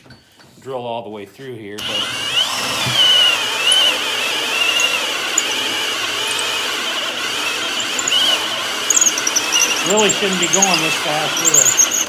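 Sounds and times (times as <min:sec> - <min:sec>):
drill bit squealing through wood: 0:01.8 - 0:12.0.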